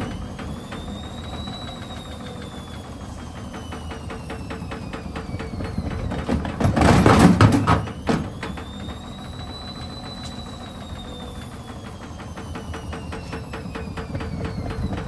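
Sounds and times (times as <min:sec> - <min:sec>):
washing machine motor whine: 0:00.0 - 0:15.0.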